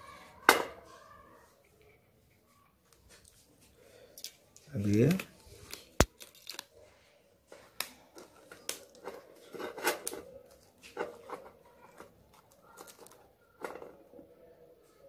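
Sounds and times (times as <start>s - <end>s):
hands handling plastic parts: 1.6s - 14.3s.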